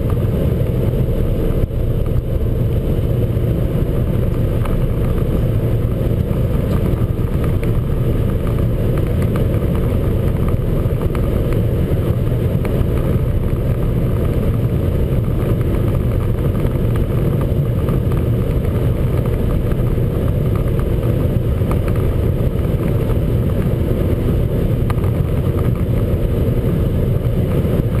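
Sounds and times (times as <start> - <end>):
road and wind noise: 0.0 - 28.0.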